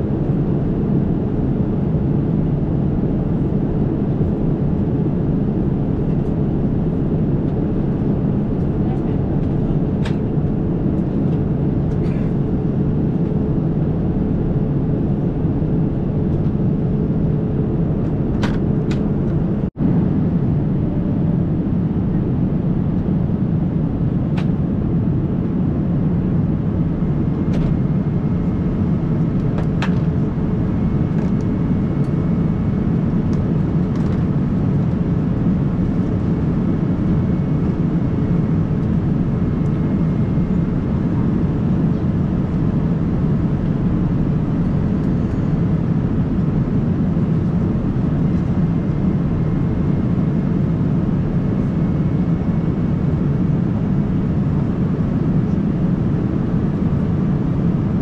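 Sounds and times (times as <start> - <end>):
jet airliner cabin noise: 0.0 - 58.0.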